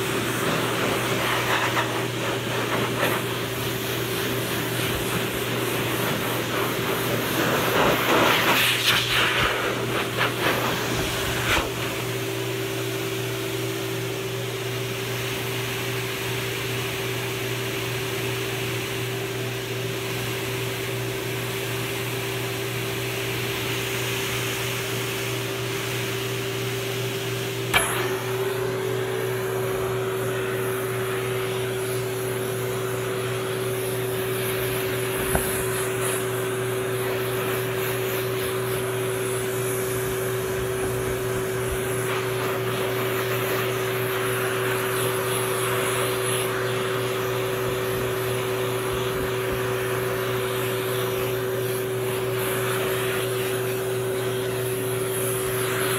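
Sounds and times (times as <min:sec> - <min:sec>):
pet blow dryer whirring: 0:00.0 - 0:55.9.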